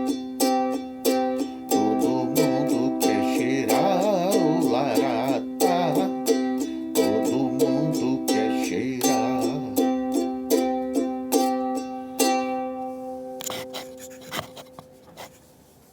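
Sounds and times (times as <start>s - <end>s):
ukulele strumming: 0.0s - 14.0s.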